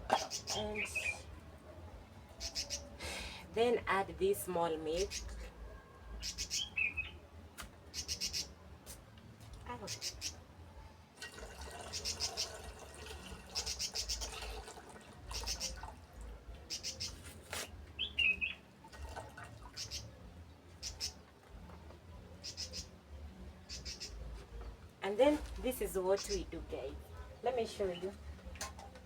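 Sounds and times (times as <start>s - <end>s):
small birds chirping in trills: 0.0s - 8.8s, 9.6s - 11.0s, 11.7s - 29.0s.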